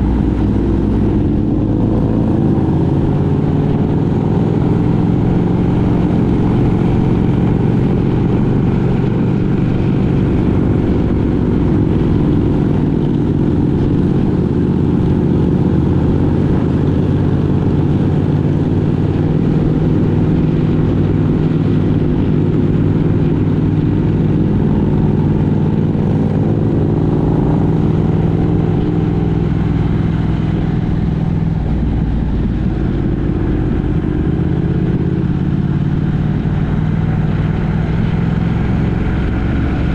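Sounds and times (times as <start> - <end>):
vehicle engine humming while driving: 0.0 - 39.9.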